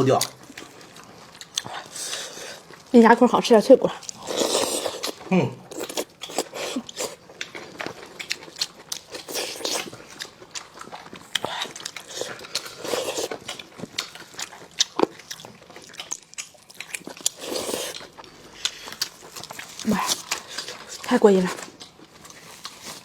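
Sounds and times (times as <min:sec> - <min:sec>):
person chewing meat: 0:00.1 - 0:02.9, 0:03.9 - 0:23.0.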